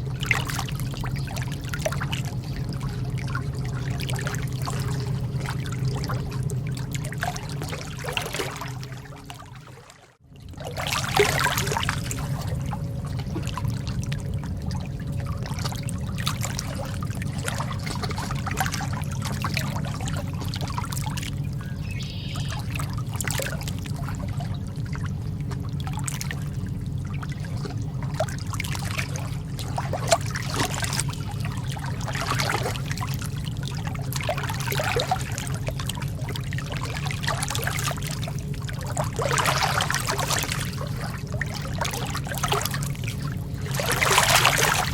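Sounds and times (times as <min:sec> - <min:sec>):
lake water trickling and splashing: 0:00.0 - 0:44.9
steady low rumble: 0:00.0 - 0:44.9.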